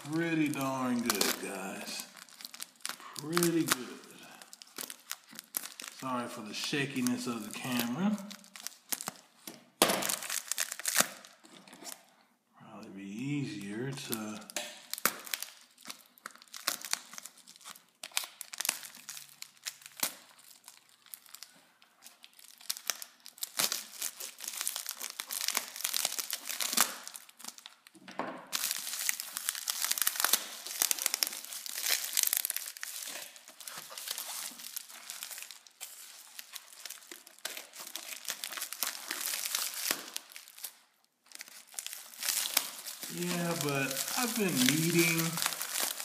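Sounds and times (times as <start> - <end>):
plastic bag crinkling and tearing: 0.0 - 12.2, 13.2 - 46.0.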